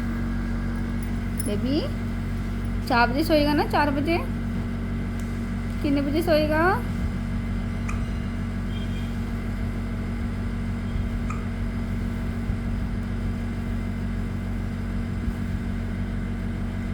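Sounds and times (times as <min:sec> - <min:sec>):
steady mechanical hum: 0:00.0 - 0:16.9.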